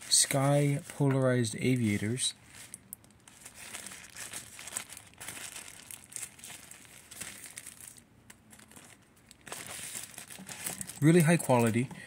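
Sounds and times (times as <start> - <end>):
tissue paper rustling and crinkling: 0.0 - 11.8.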